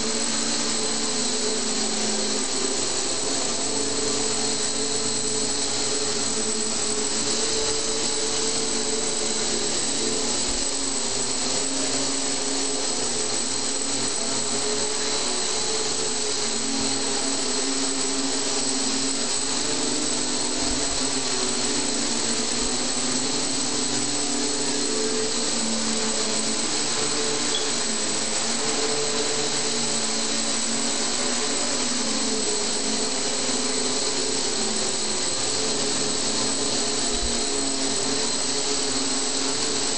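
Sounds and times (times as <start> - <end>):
multicopter propellers whirring: 0.0 - 39.9.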